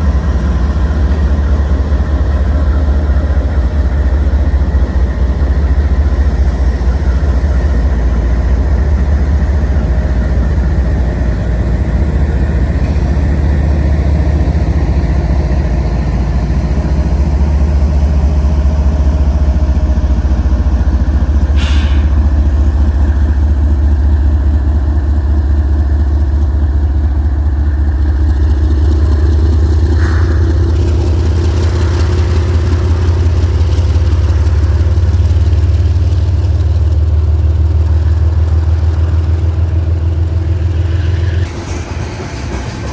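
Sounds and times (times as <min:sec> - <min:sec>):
vehicle engine rumbling: 0:00.0 - 0:42.9.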